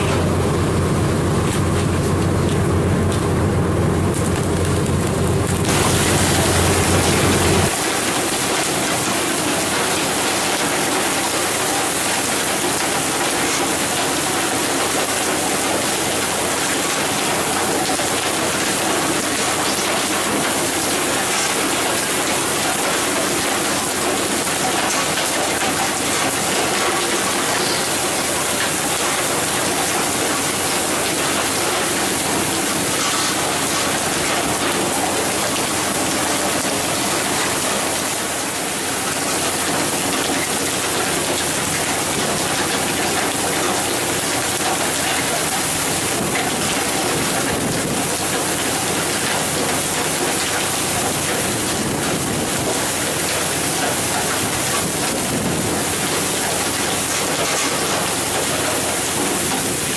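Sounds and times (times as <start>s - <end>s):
water spray rushing along boat hull: 5.6s - 59.9s.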